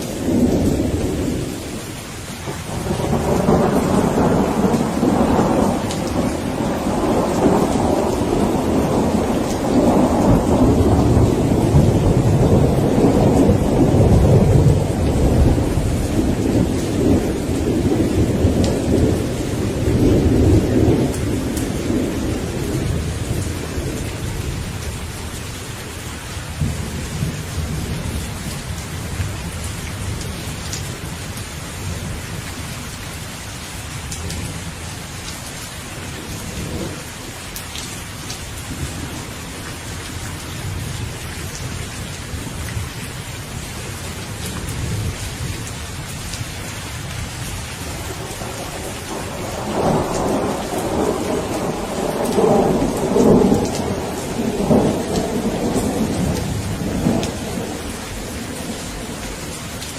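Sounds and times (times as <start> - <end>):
thunder rumbling: 0.0 - 34.9, 36.0 - 43.2, 43.8 - 59.9
steady rain: 0.0 - 59.9.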